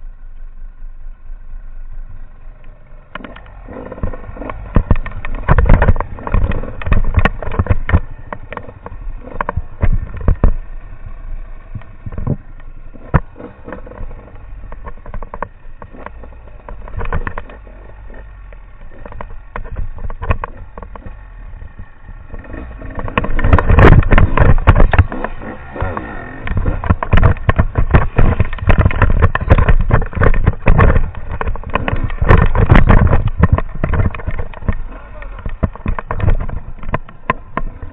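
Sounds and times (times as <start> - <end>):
motorbike engine running: 0.0 - 37.9
knocks and thuds over rough ground: 2.6 - 37.9.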